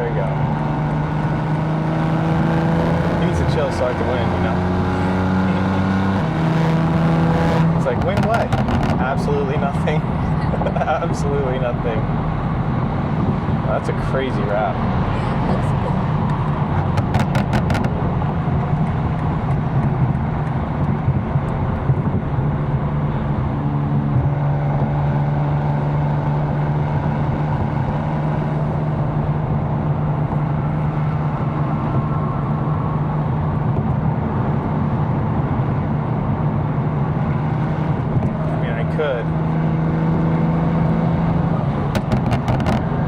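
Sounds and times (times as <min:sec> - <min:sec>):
car engine droning: 0:00.0 - 0:43.0.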